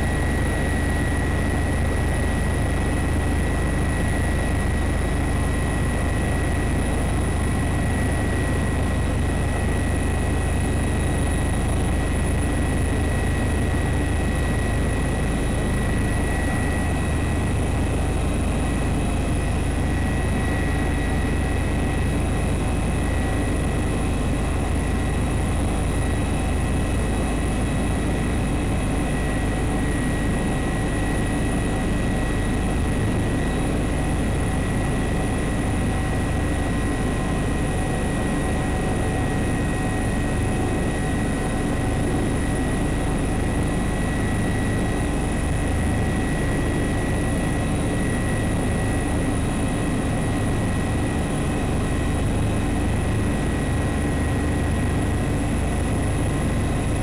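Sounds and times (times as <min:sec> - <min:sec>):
aircraft engine drone: 0:00.0 - 0:57.0
thin steady whines: 0:00.0 - 0:57.0.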